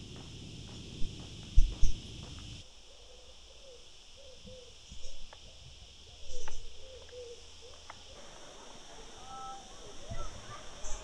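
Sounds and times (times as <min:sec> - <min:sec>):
insect chorus shrilling: 0:00.0 - 0:11.0
rustles: 0:00.0 - 0:11.0.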